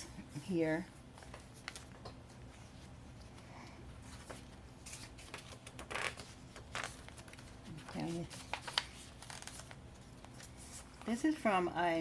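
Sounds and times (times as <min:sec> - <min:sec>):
paper pages rustling and turning: 0:01.1 - 0:03.4, 0:04.0 - 0:11.4.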